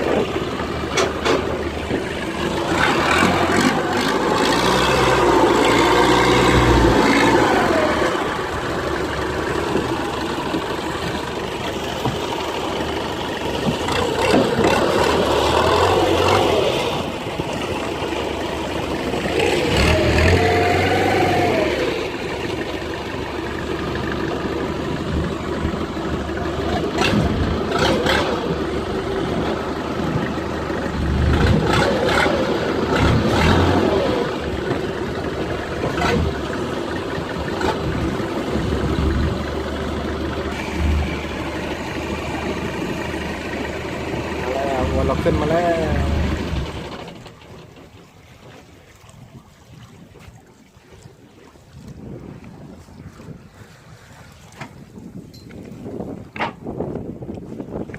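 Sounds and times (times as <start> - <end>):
boat engine revving: 0.0 - 49.3.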